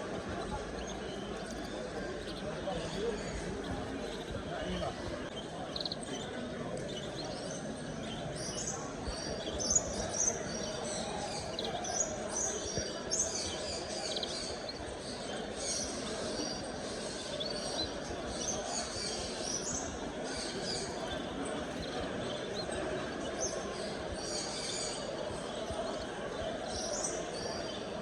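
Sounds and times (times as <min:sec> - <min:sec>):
murmur of people talking: 0:00.0 - 0:28.0
small birds chirping and twittering: 0:00.0 - 0:28.0.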